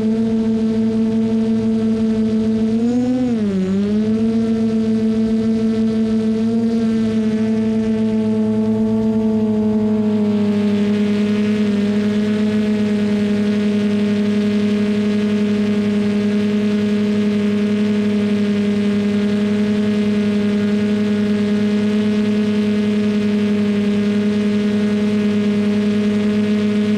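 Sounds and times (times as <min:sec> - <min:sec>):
loud hum of held tones: 0:00.0 - 0:26.9.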